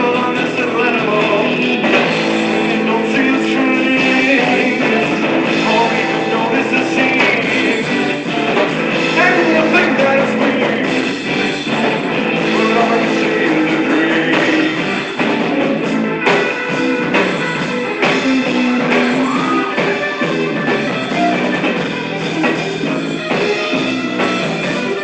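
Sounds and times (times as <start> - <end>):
guitar-led rock music: 0.0 - 25.0.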